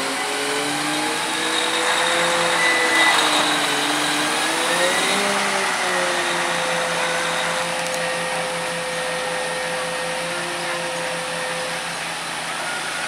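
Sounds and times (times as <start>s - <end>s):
hydraulic crane whine: 0.0s - 13.0s
truck engine running: 0.0s - 13.0s.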